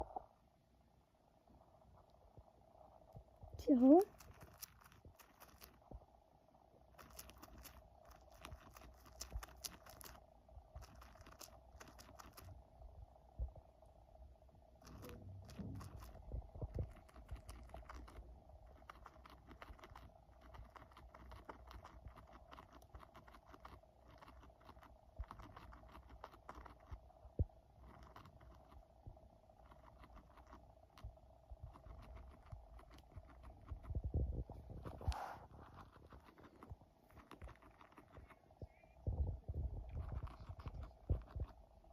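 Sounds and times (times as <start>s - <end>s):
faint steady hum: 0.0s - 41.9s
rabbit crunching dry food: 3.2s - 6.0s, 6.8s - 12.7s, 14.8s - 38.5s, 39.6s - 41.9s.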